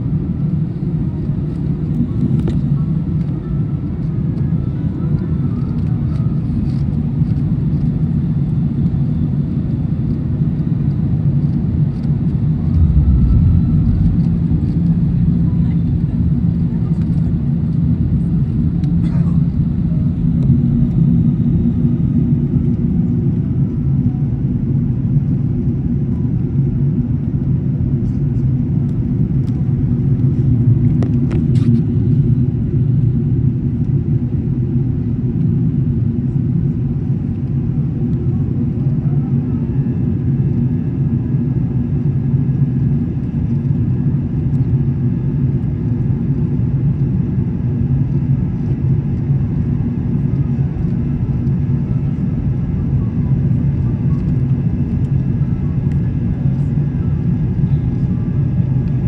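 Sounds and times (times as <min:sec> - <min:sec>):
airliner low rumble: 0:00.0 - 0:59.0.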